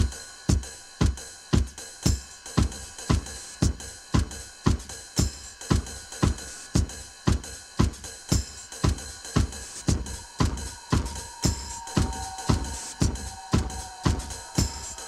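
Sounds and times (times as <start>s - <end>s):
electronic dance track: 0.0s - 15.0s
hi-hats: 0.0s - 15.0s
kick drum: 0.0s - 15.0s
steady hiss: 0.0s - 15.0s.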